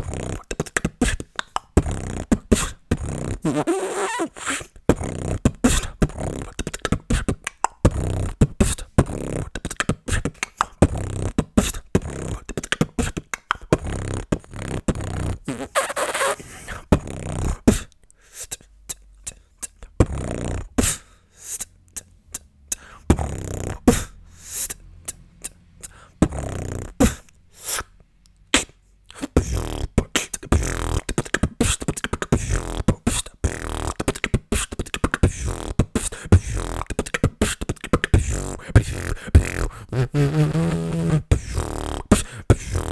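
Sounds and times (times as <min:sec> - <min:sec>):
beatboxing: 0:00.0 - 0:42.9.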